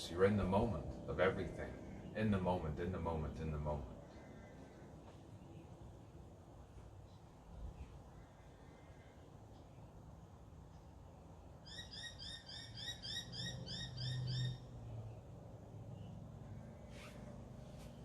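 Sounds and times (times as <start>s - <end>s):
low hum: 0.0s - 11.7s, 13.2s - 18.0s.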